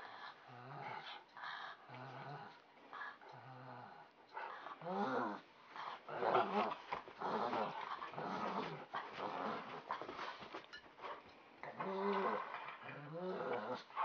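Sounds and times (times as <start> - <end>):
dogs growling: 0.0 - 14.0.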